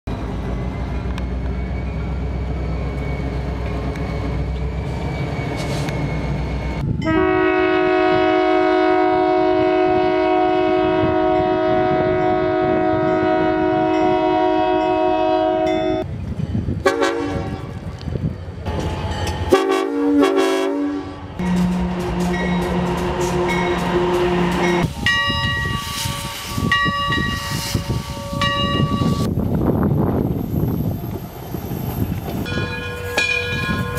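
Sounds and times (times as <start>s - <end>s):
locomotive engine rumble: 0.1s - 33.9s.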